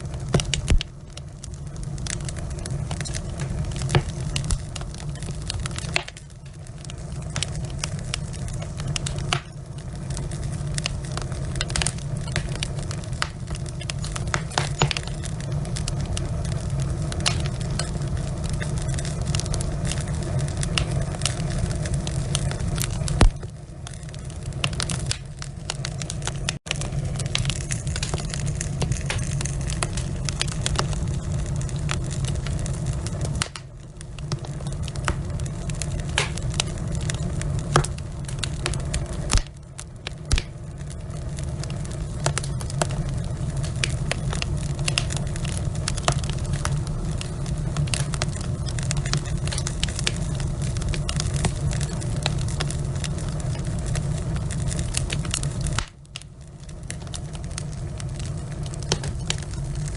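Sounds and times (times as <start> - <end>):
fire low rumble: 0.0 - 59.9
wood fire crackling and popping: 0.0 - 59.9.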